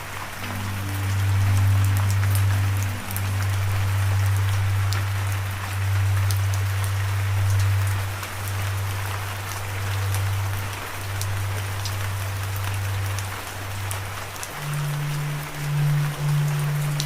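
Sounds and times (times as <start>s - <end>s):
low droning background music: 0.0s - 17.0s
steady rain falling: 0.0s - 17.0s.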